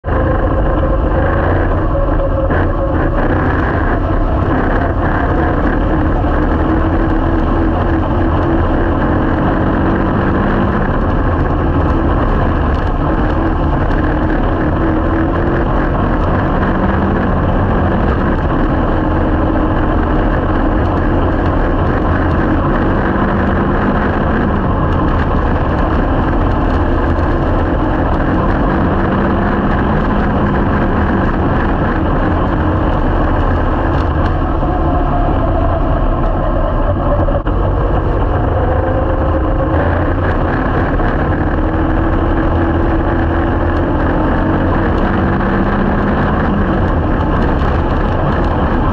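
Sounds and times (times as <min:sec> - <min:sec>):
race car engine running: 0:00.0 - 0:48.9.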